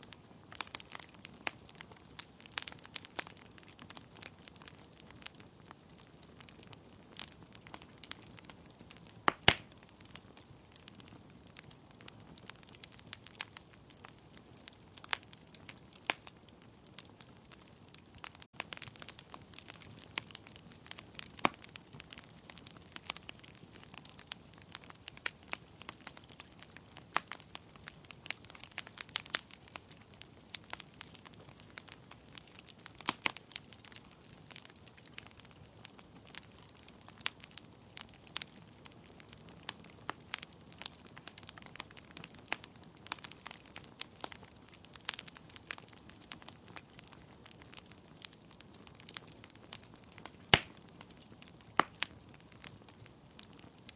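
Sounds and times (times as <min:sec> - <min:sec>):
logs crackling and popping: 0:00.0 - 0:53.9.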